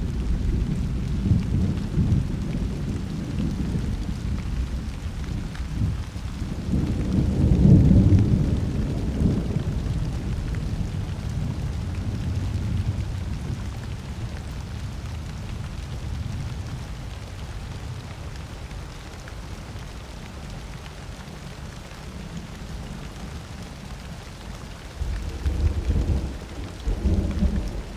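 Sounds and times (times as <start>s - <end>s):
thunder rumbling: 0.0s - 18.6s, 24.0s - 27.9s
steady rain: 0.0s - 27.9s.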